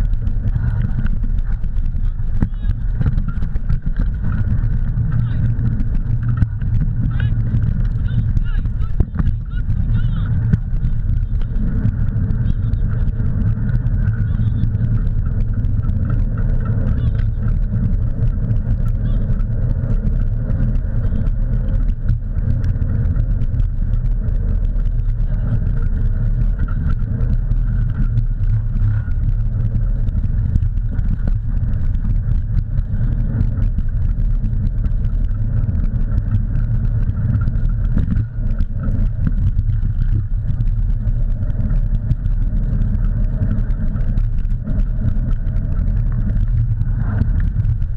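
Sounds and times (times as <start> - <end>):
wheels rolling over dirt trail: 0.0 - 47.9
wind buffeting microphone: 0.0 - 47.9.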